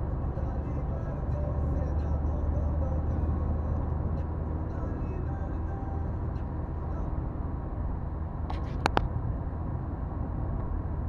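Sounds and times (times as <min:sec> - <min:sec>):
car driving road rumble: 0:00.0 - 0:11.0.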